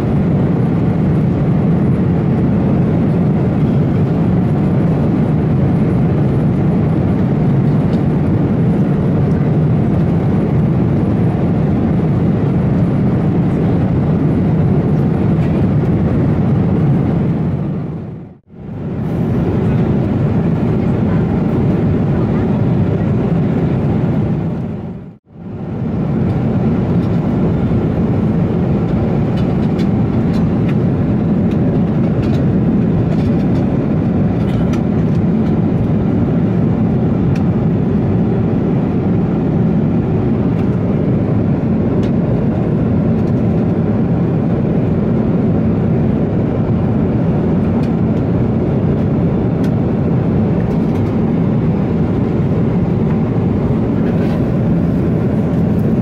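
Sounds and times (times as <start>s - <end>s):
airliner cabin rush: 0.0s - 25.0s, 25.6s - 56.0s.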